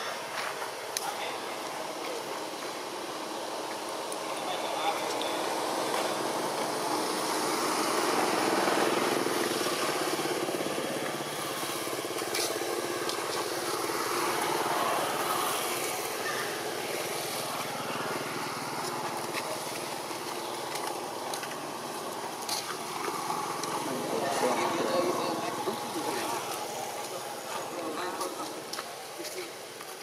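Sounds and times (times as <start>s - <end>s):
small engine running: 4.3s - 28.6s.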